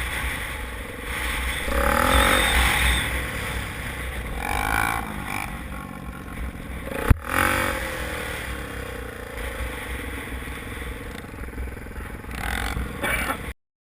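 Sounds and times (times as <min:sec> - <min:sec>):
motocross bike engine revving: 0:00.0 - 0:13.5.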